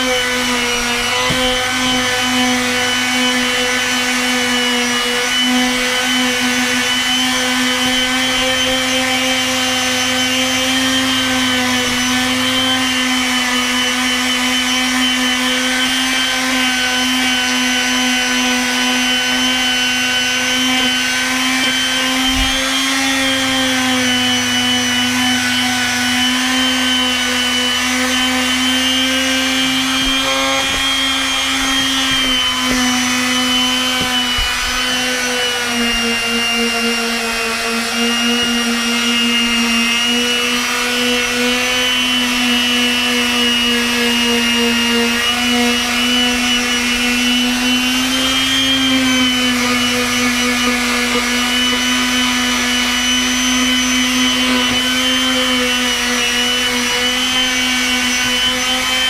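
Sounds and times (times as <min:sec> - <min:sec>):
palm sander motor whine: 0:00.0 - 0:59.0
sandpaper rubbing on wood: 0:00.0 - 0:59.0.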